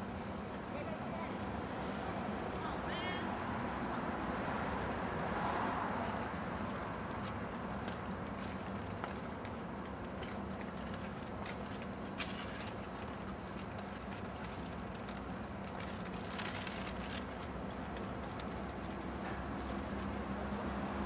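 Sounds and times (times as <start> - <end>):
low traffic hum: 0.0 - 21.0.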